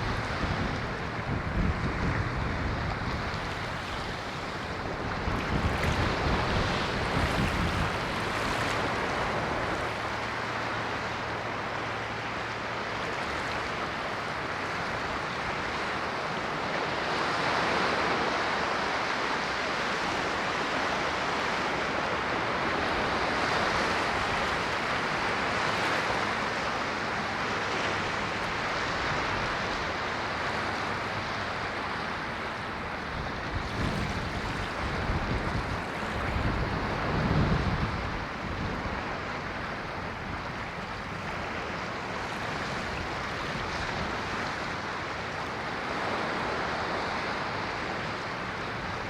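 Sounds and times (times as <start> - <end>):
ocean waves washing: 0.0 - 49.0.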